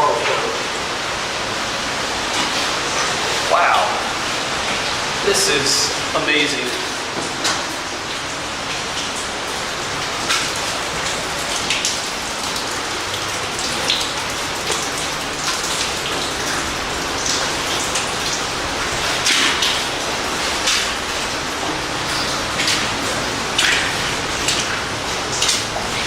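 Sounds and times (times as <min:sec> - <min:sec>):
falling water rushing: 0:00.0 - 0:26.0
water splashes: 0:00.0 - 0:26.0.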